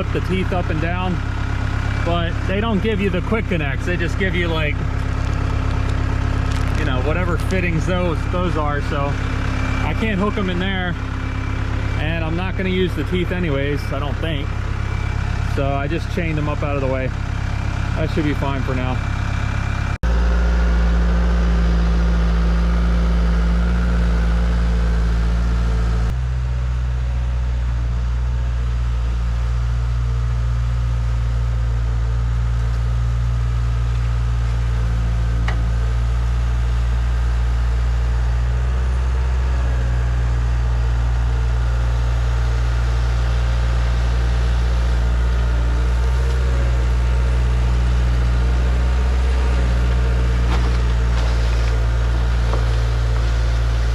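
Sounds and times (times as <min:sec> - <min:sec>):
skid steer engine running: 0:00.0 - 0:53.9.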